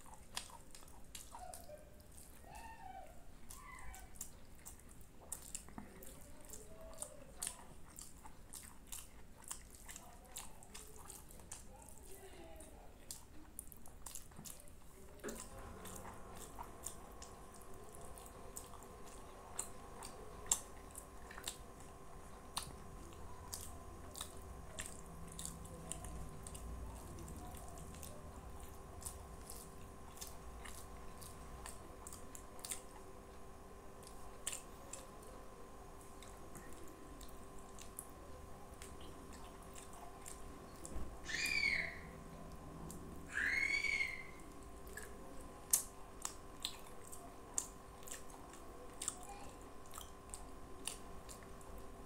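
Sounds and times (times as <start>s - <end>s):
wet chewing: 0.0s - 52.0s.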